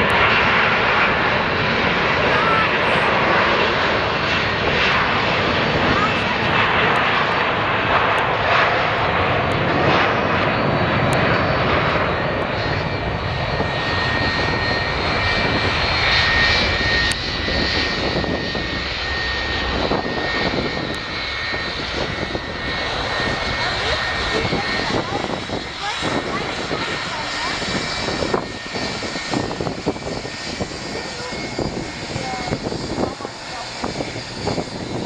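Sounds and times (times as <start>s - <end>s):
jet engines rushing: 0.0s - 35.0s.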